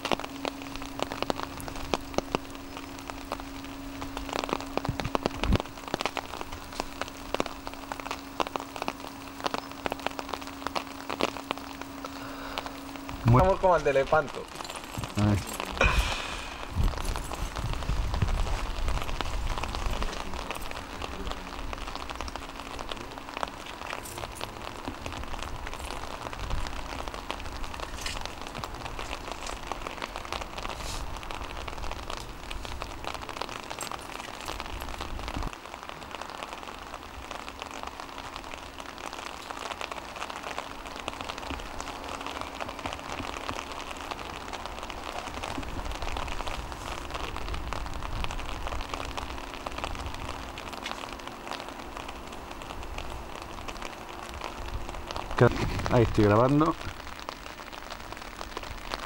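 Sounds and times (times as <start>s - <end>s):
rain falling on stone: 0.0s - 59.0s.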